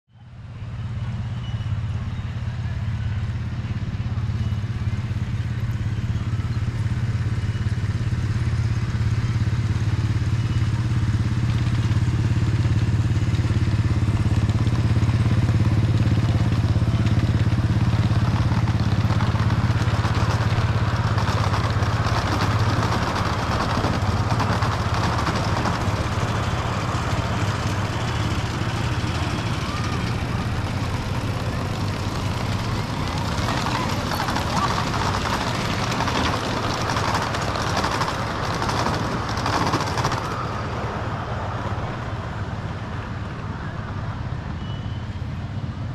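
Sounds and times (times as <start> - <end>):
small locomotive engine humming: 0.1 - 45.9
train wheels rattling on track: 0.5 - 42.5.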